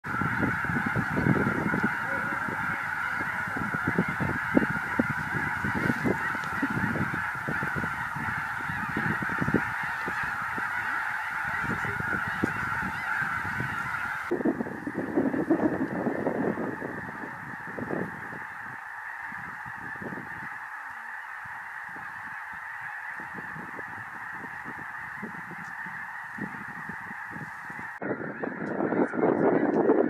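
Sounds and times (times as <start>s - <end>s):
geese honking: 0.0s - 30.0s.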